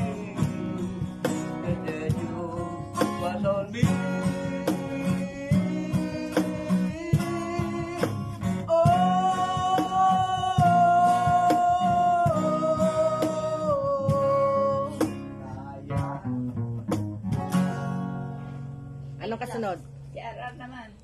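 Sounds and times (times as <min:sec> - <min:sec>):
acoustic guitars strumming: 0:00.0 - 0:20.9
cajon beat: 0:00.0 - 0:21.0.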